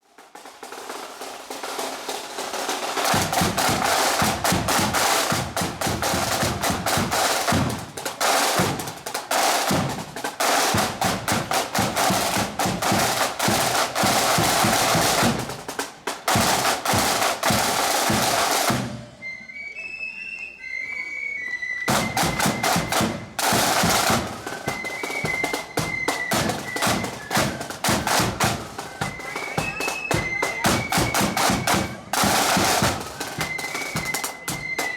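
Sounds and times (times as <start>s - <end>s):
snare and bass drums: 0.1s - 19.1s, 21.9s - 34.9s.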